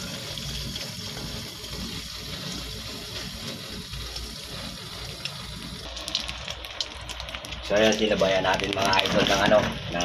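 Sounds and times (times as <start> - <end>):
eggs sizzling in hot oil: 0.0 - 10.0.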